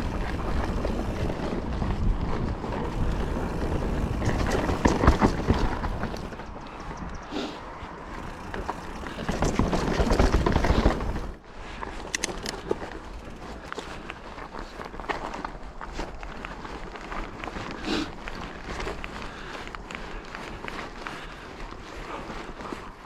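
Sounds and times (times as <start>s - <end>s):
bike rattling and clicking: 0.0s - 23.0s
tyres on dirt and stones: 0.0s - 23.0s
wind rushing over camera: 0.0s - 23.0s.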